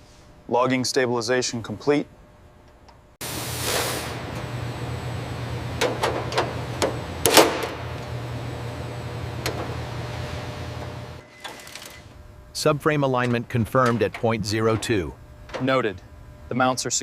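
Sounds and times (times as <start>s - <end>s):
steady low hum: 0.1s - 11.2s, 12.1s - 17.0s.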